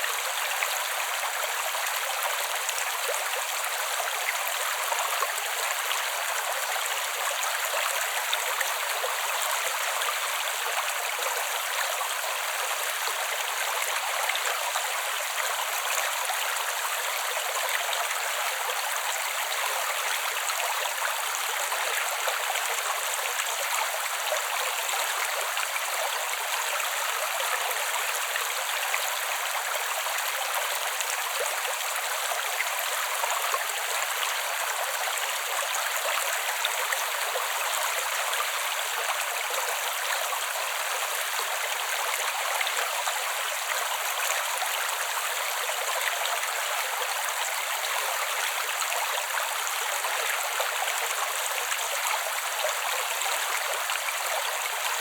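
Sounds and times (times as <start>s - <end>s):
creek water flowing: 0.0s - 55.0s.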